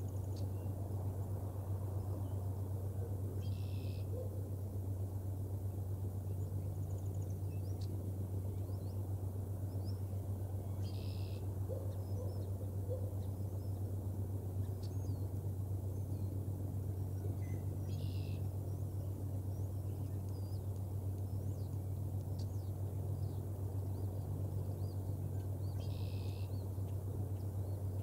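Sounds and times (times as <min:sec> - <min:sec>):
songbirds chirping: 0:00.0 - 0:28.0
steady low hum: 0:00.0 - 0:28.0.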